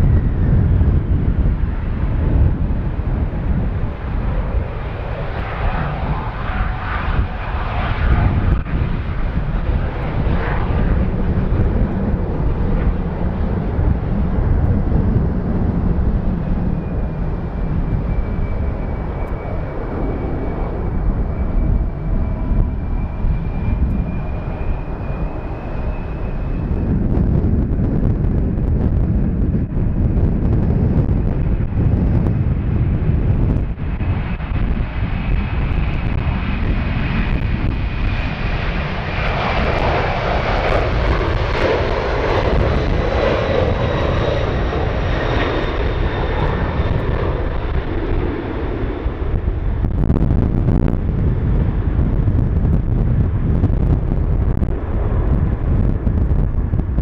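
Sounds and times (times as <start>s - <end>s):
high jet engine whine: 0.0s - 57.0s
jet engines deep rumble: 0.0s - 57.0s.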